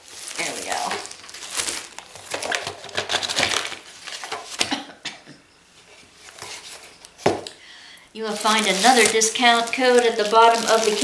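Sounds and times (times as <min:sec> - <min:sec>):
plastic wrap crinkling: 0:00.0 - 0:04.7, 0:06.0 - 0:07.3, 0:08.2 - 0:11.0.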